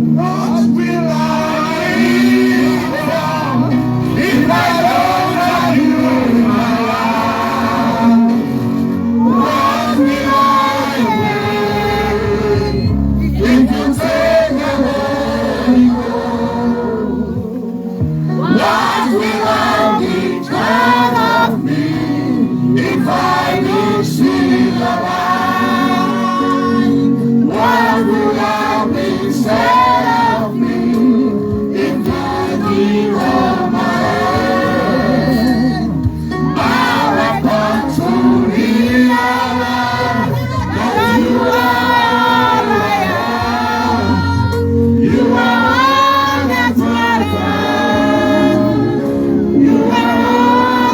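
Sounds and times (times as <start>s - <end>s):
group of voices singing: 0.0s - 50.9s
instrumental backing: 0.0s - 50.9s.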